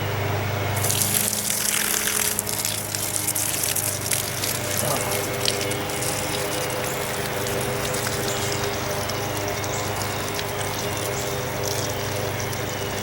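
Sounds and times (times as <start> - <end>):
electric pump humming: 0.0 - 13.0
water rushing through hose: 0.8 - 13.0.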